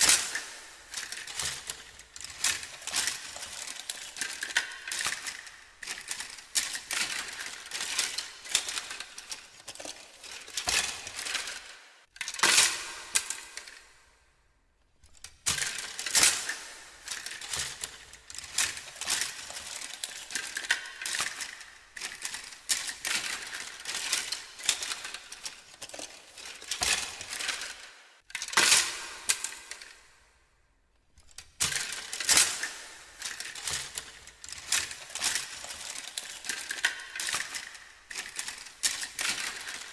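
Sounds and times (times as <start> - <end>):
hands rummaging through hard objects: 0.0 - 12.8, 15.5 - 28.6, 31.3 - 39.9.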